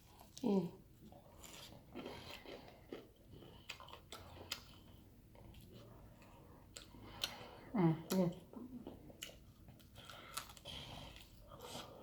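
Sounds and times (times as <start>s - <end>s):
person chewing: 0.0s - 12.0s.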